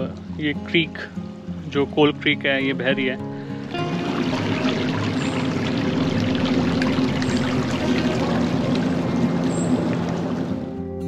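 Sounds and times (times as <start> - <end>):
creek water trickling over stones: 0.0 - 10.8.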